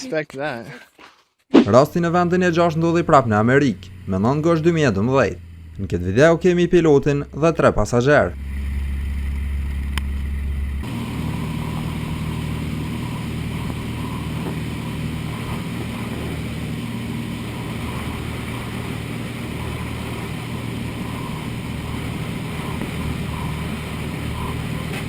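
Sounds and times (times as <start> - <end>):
propeller aircraft engine in cabin: 1.9 - 25.0.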